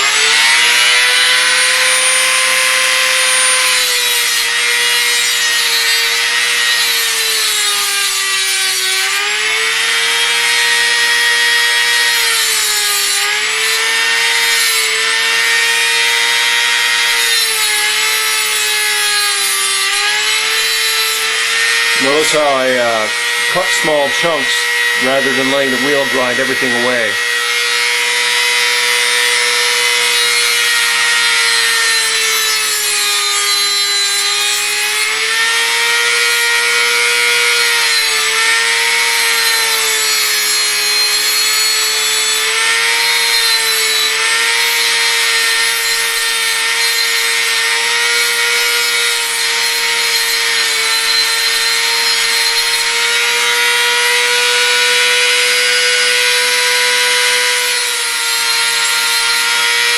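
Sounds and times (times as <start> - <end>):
rotary tool cutting steel: 0.0 - 59.9.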